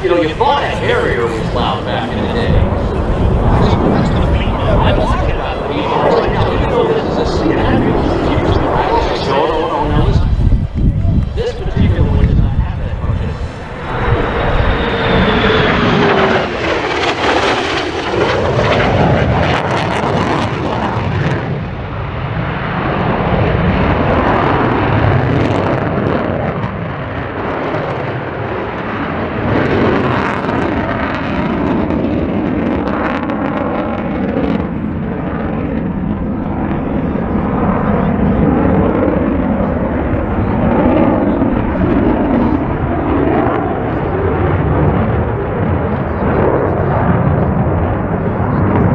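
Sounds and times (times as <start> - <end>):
fighter jet flying past: 0.0 - 48.9
loud steady jet noise: 0.0 - 48.9.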